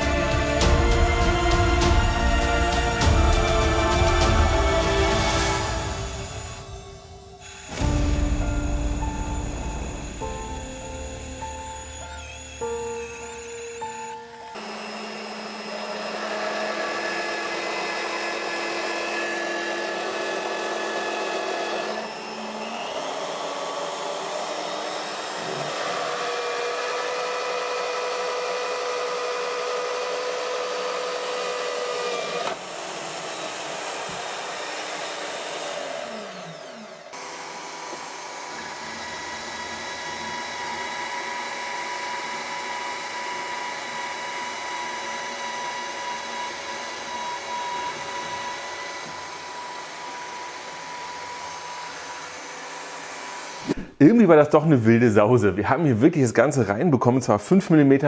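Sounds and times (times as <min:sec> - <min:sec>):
drill press motor running: 0:00.0 - 0:53.8
drill drilling through steel: 0:00.0 - 0:54.0.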